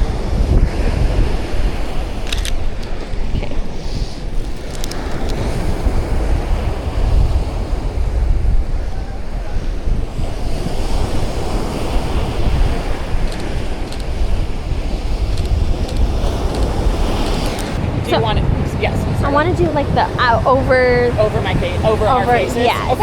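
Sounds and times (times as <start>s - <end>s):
ocean surf washing on shore: 0.0s - 23.0s
wind buffeting microphone: 0.0s - 23.0s.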